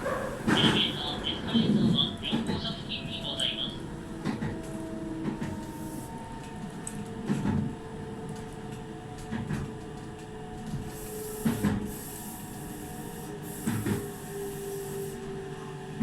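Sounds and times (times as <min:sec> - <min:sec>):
train steady hum: 0:00.0 - 0:16.0.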